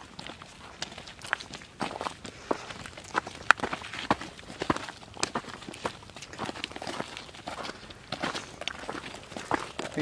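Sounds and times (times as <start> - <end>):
footsteps scuffing and clicking: 0.0 - 10.0.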